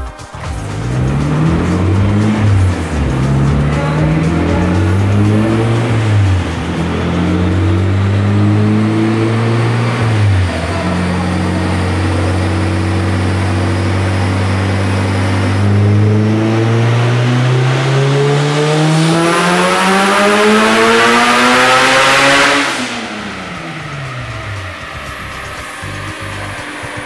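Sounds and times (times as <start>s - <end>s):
car engine revving on dyno: 0.4s - 27.0s.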